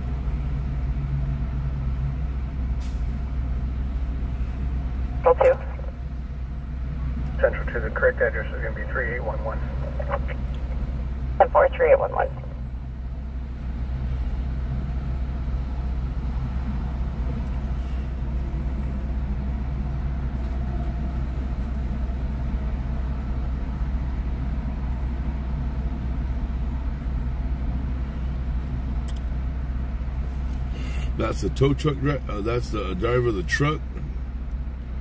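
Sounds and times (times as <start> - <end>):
freeway traffic rumble: 0.0 - 35.0
heavy trucks passing: 0.0 - 35.0.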